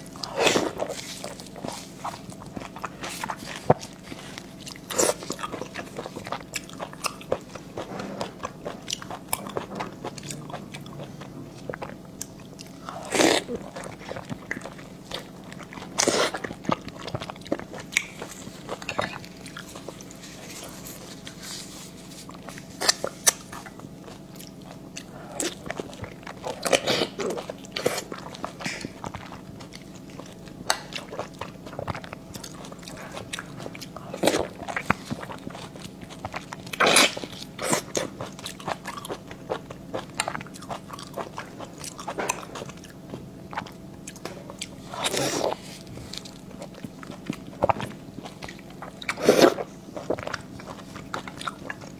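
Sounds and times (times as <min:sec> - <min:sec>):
faint steady hum: 0:00.0 - 0:51.9
mouth chewing and smacking: 0:00.0 - 0:51.9.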